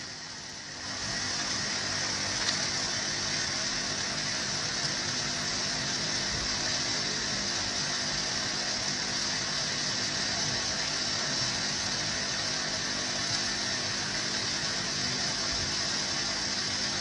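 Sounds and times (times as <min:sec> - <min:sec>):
aquarium filter water rushing: 0:00.0 - 0:17.0.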